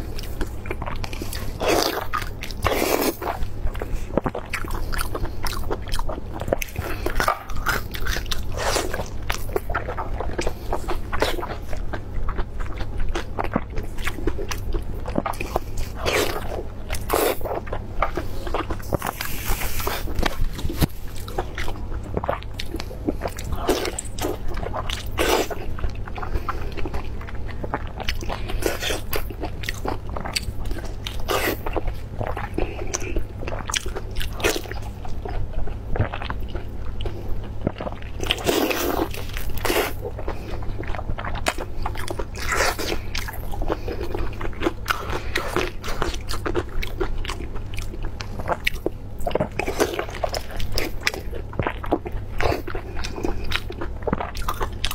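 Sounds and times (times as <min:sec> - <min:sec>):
biting and wet chewing: 0:00.0 - 0:54.9.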